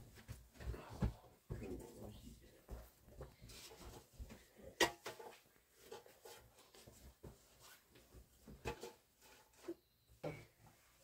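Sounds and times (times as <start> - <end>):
scattered knocks and rustling: 0.0 - 10.5.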